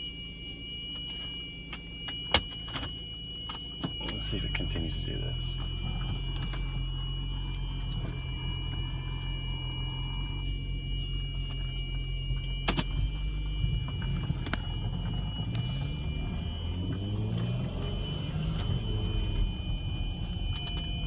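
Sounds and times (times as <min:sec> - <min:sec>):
car engine running: 0:00.0 - 0:21.0
high-pitched whine: 0:00.0 - 0:21.0.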